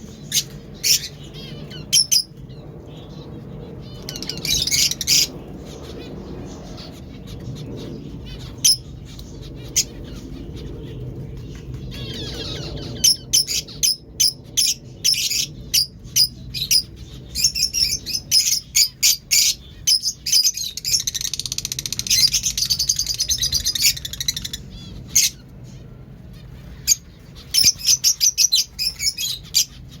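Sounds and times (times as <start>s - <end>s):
lovebirds chirping: 0.0s - 30.0s.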